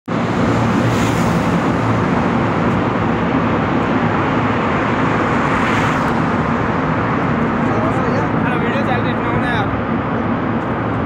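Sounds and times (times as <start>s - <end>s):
low engine hum: 0.1s - 11.0s
traffic rushing in a tunnel: 0.1s - 11.0s.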